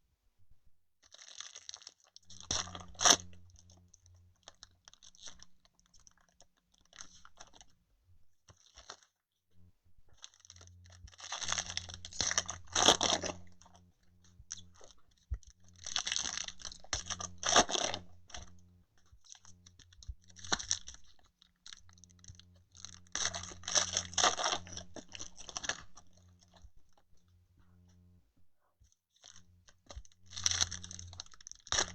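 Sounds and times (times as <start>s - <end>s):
foil wrappers crinkling and tearing: 1.0s - 7.7s, 8.5s - 9.1s, 10.2s - 18.6s, 19.2s - 26.7s, 29.2s - 31.9s
small rustles and clicks: 1.0s - 9.2s, 10.1s - 31.9s.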